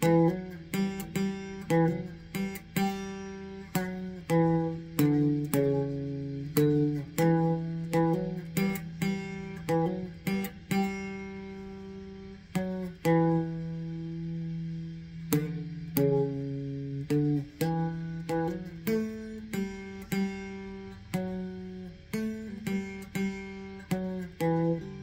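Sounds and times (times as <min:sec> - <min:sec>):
guitar played with a pick: 0:00.0 - 0:25.0.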